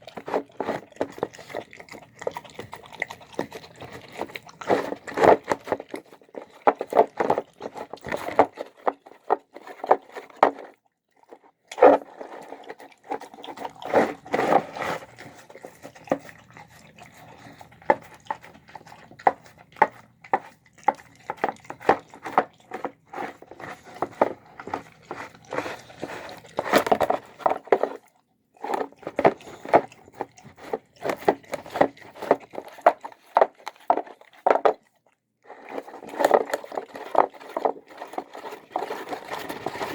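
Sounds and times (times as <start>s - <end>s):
dog chewing and smacking: 0.0s - 39.9s.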